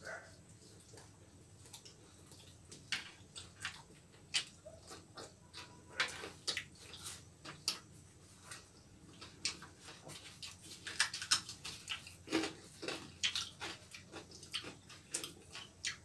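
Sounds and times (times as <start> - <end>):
people chewing with lip smacks: 0.0 - 16.0.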